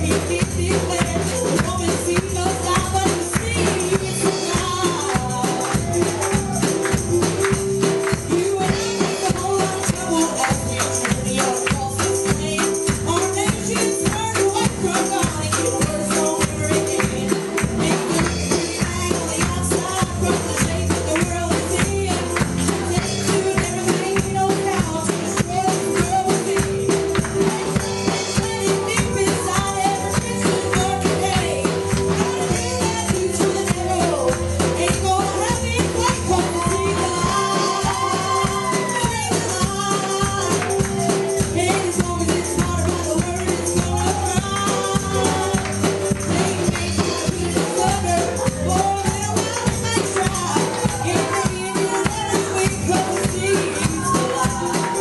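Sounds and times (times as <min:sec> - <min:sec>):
drums: 0:00.0 - 0:55.0
gospel band music: 0:00.0 - 0:55.0
people singing: 0:00.0 - 0:55.0
tambourine: 0:00.0 - 0:55.0.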